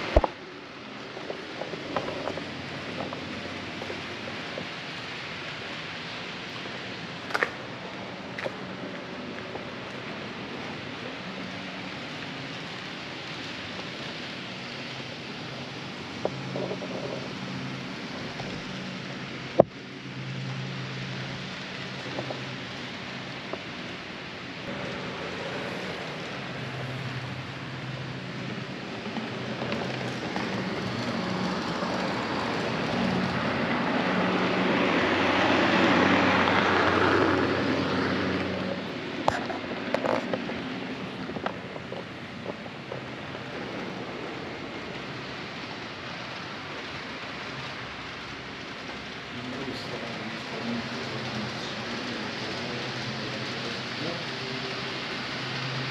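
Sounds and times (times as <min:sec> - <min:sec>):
model train rumbling: 0:00.0 - 0:55.9.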